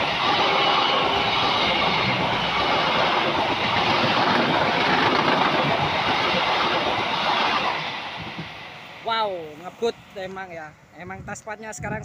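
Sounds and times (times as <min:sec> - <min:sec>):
train coaches passing: 0:00.0 - 0:11.8.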